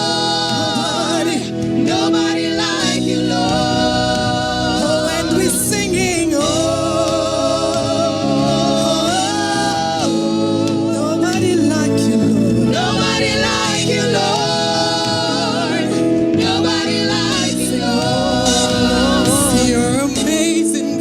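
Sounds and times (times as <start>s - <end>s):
gospel worship singing: 0.0s - 21.0s
sustained accompaniment: 0.0s - 21.0s.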